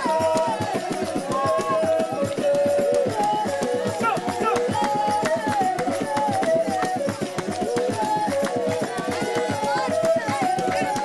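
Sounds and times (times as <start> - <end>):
fast percussion: 0.0 - 11.0
group singing: 0.0 - 11.0.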